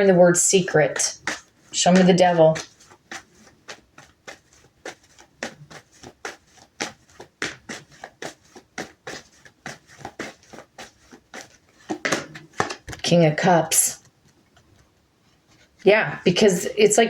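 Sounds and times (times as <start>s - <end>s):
cards being shuffled: 0.5s - 15.9s.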